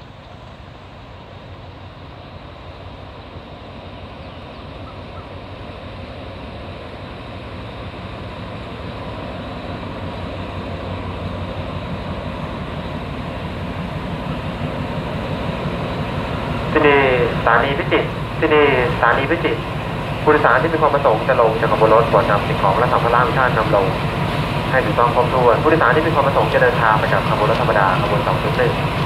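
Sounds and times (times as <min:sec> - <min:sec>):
diesel locomotive engine running: 0:00.0 - 0:29.0.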